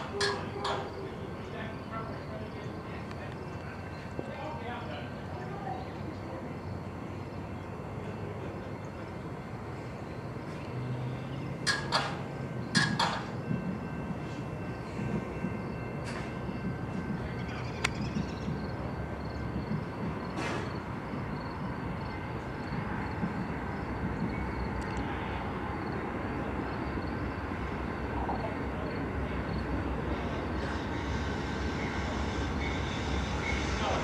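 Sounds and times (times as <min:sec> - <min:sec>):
distant diesel train rumbling: 0:00.0 - 0:34.0.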